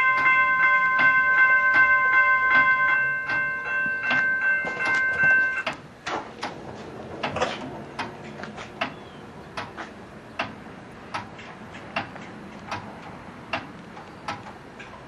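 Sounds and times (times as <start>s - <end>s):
railroad crossing signal clicking: 0.0s - 6.6s, 7.2s - 15.0s.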